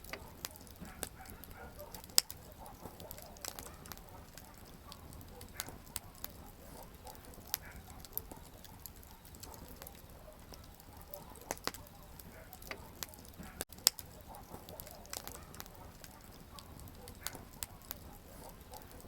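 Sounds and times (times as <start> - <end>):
campfire crackling and popping: 0.0 - 19.0
low rumble of flame: 0.0 - 19.0.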